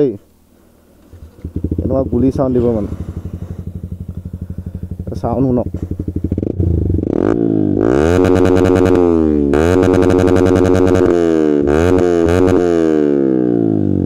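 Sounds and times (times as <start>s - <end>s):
motorcycle engine revving: 0.9s - 14.0s.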